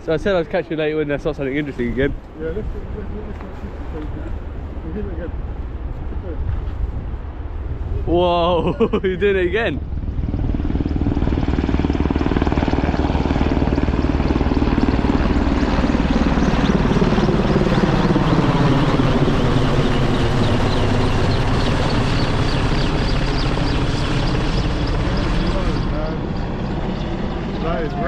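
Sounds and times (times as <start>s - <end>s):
helicopter flying overhead: 0.0s - 28.0s.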